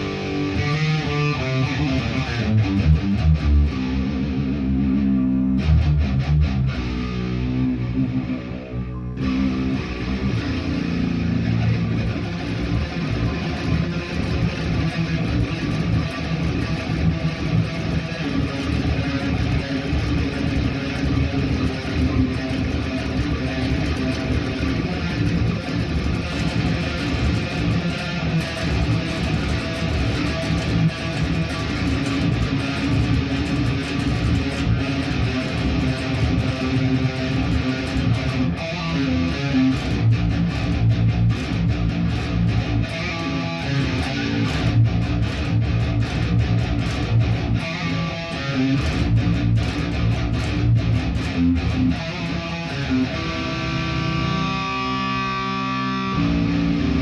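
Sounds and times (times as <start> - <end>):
guitar picked and strummed: 0.0 - 57.0.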